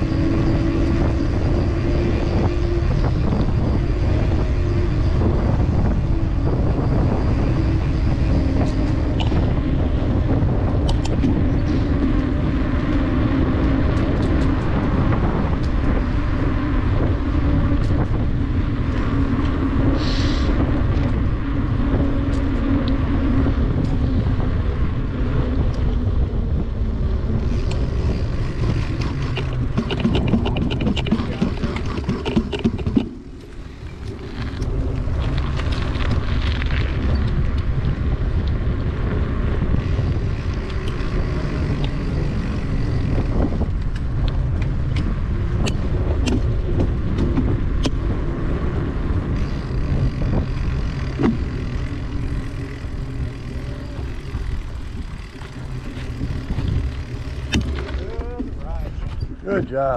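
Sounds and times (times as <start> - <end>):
bicycle tyre and road noise: 0.0 - 59.9
wind buffeting microphone: 0.0 - 59.9.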